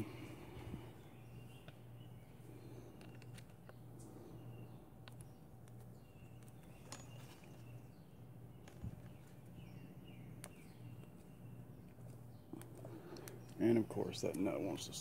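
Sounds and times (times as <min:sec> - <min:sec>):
faint bird chirps: 0:00.0 - 0:15.0
low steady hum: 0:00.0 - 0:15.0.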